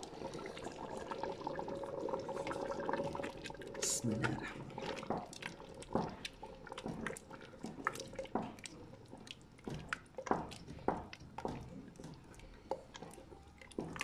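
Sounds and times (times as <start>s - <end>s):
spoon stirring thick stew: 0.0s - 14.0s.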